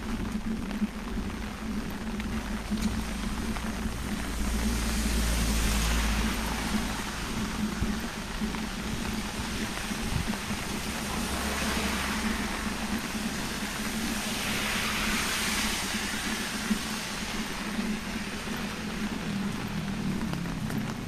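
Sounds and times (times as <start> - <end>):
rain hissing: 0.0 - 21.0
tyres hissing on wet road: 0.0 - 21.0.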